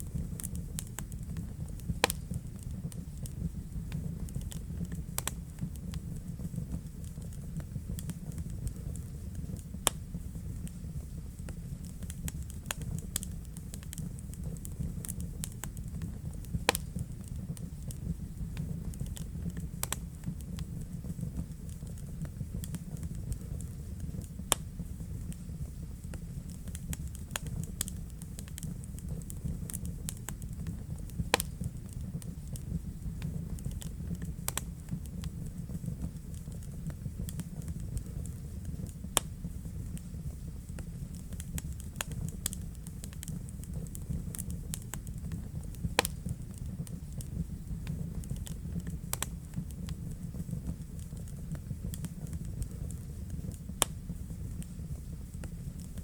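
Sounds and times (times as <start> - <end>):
fire crackling and popping: 0.0 - 56.0
fire flames rumbling: 0.0 - 56.0.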